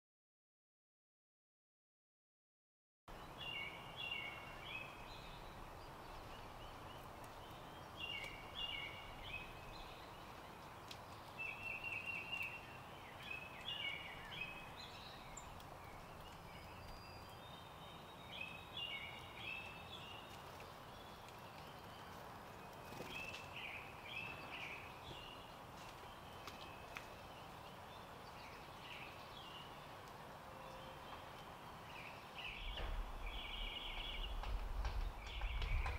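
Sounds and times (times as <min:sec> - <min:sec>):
outdoor background noise: 0:03.1 - 0:35.9
songbird singing: 0:03.1 - 0:35.9.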